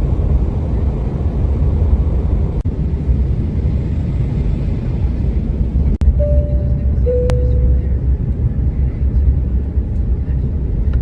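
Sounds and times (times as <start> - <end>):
airplane rumble in flight: 0.0 - 11.0.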